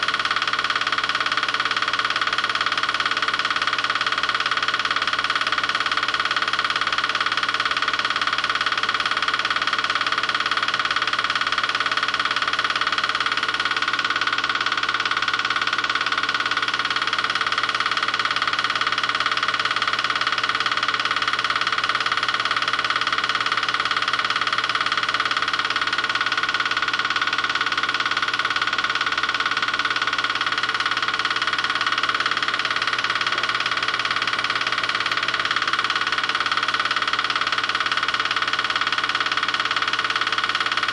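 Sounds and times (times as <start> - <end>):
film projector humming: 0.0 - 40.9.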